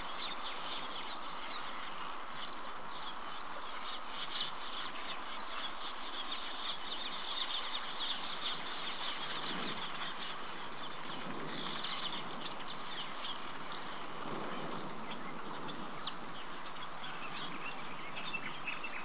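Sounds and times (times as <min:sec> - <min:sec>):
small birds chattering: 0:00.0 - 0:19.0
steady hiss: 0:00.0 - 0:19.0.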